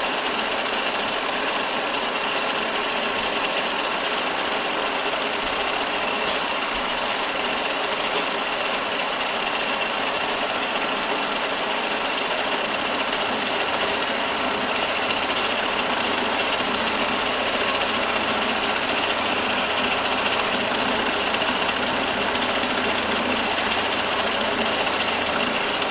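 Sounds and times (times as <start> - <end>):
milling machine running: 0.0 - 25.9.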